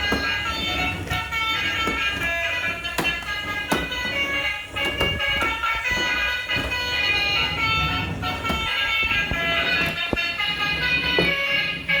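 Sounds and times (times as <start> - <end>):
music: 0.0 - 12.0
tooting horn-like tones: 0.0 - 12.0.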